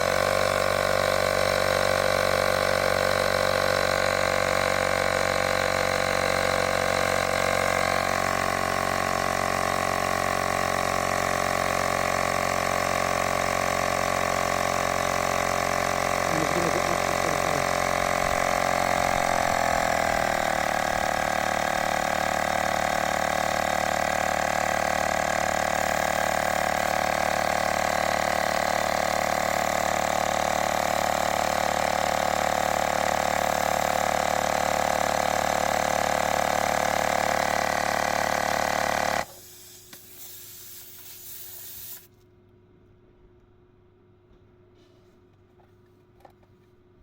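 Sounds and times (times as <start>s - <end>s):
electric tyre inflator humming: 0.0s - 42.1s.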